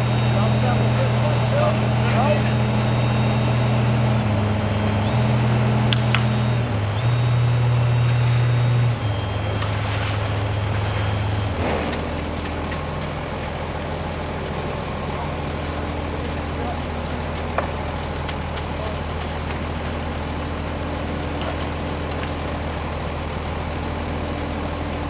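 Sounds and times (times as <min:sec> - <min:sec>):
truck diesel engines running: 0:00.0 - 0:25.0.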